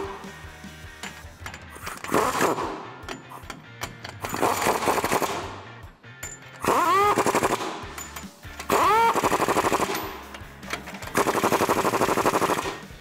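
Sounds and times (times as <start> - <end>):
impact wrench hammering: 1.0 - 12.9.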